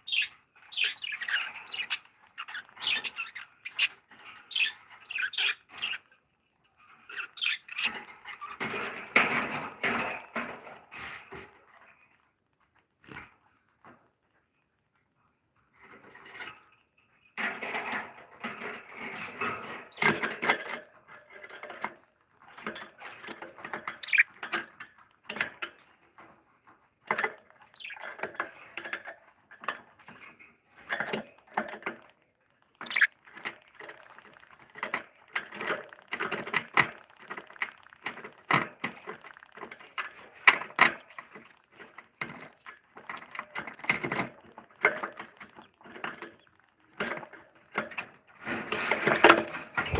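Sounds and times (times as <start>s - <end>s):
birds scratching and rustling: 0.0s - 6.2s, 6.8s - 14.6s, 15.7s - 49.9s.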